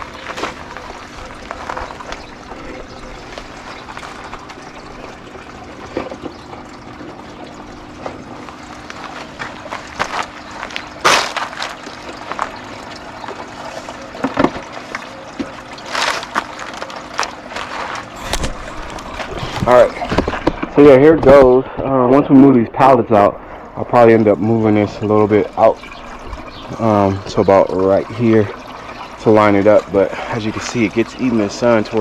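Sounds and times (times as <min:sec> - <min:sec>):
water trickling and pouring: 0:00.0 - 0:21.6, 0:22.3 - 0:32.0
faint steady hum: 0:00.0 - 0:32.0.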